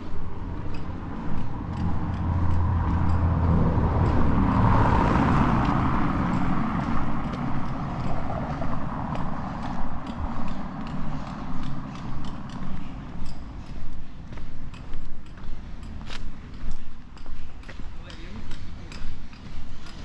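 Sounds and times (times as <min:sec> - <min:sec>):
car passing: 0:00.0 - 0:20.0
footsteps on pavement: 0:00.0 - 0:20.0.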